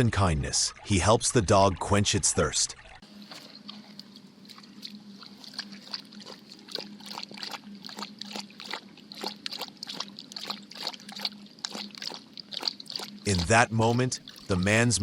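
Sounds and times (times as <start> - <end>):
faint steady hum: 0.0 - 15.0
water trickling and dripping: 0.0 - 15.0.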